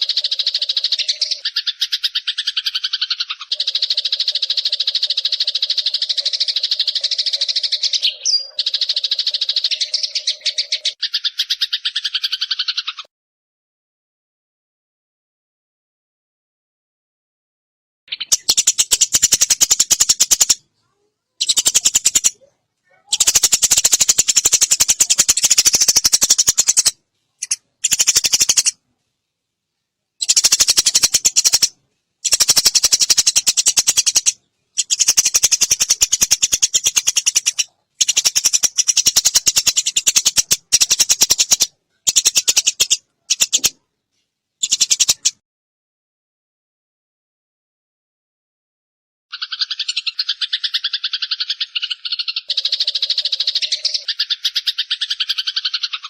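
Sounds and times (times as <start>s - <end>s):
sparrow chattering: 0.0s - 13.1s, 18.1s - 28.8s, 30.2s - 43.8s, 44.6s - 45.4s, 49.3s - 56.0s.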